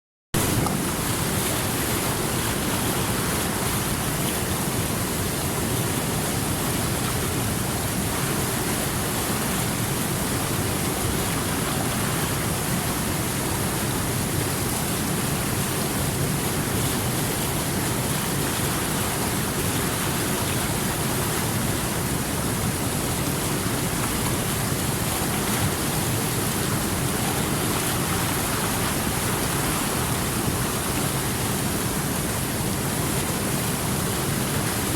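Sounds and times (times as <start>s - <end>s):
creek water rushing: 0.4s - 34.9s.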